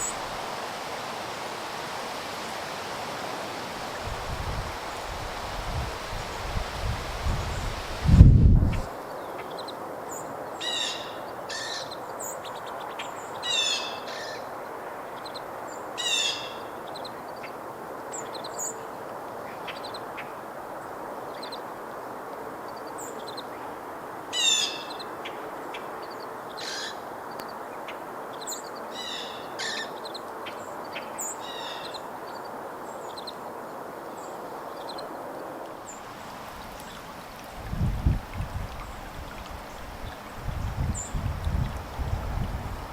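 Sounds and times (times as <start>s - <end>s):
steady background hiss: 0.0s - 42.9s
songbirds singing and chirping: 7.3s - 42.9s.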